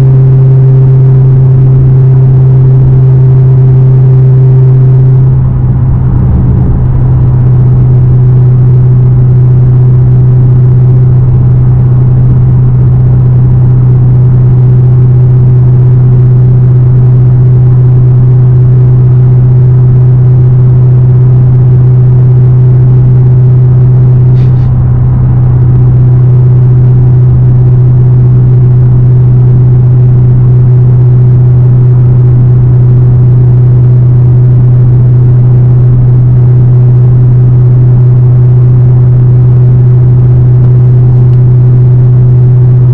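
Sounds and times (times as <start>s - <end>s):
car exhaust droning: 0.0s - 42.9s.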